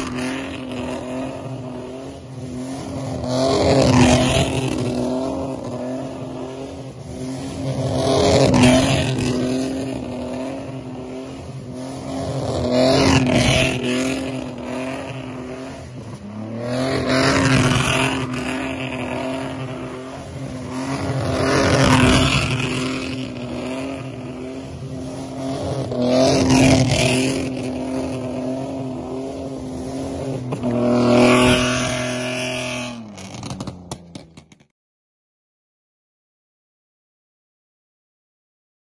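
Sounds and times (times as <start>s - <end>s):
car engine revving hard: 0.0s - 34.0s.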